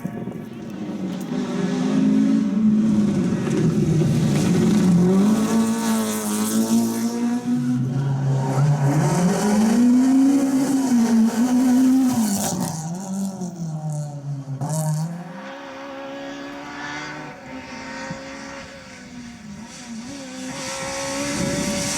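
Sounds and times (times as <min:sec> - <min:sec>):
rally car engine: 0:00.0 - 0:21.9.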